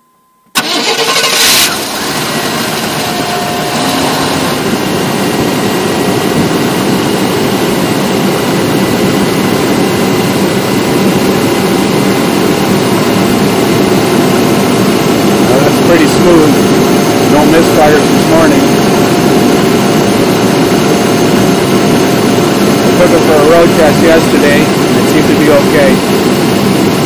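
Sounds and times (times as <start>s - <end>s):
car engine starting and idling: 0.6s - 27.0s.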